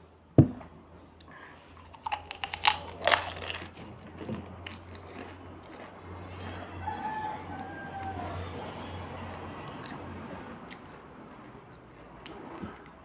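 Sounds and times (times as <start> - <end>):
crunching of crisp shells: 1.3 - 8.3, 9.2 - 13.0.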